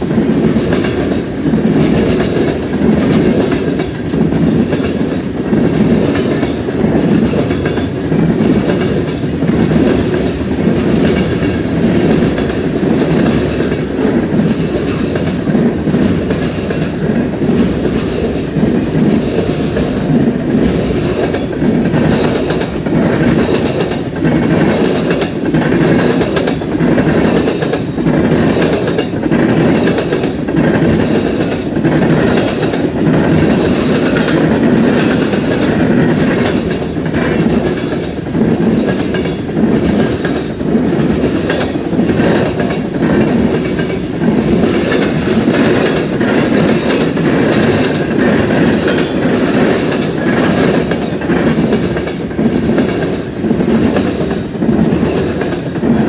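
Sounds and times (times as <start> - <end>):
clickety-clack over rail joints: 0.0 - 56.0
freight train wheels rumbling: 0.0 - 56.0.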